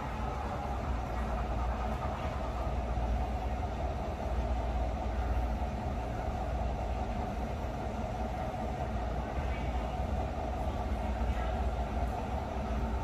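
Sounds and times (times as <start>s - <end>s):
low mechanical rumble and hum: 0.0s - 13.0s.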